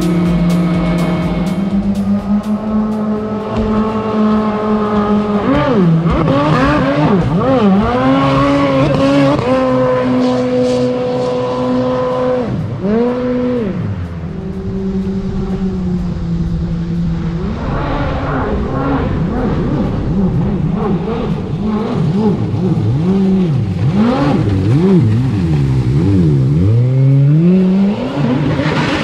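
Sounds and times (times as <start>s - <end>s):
jet boat engine revving: 0.0s - 29.0s.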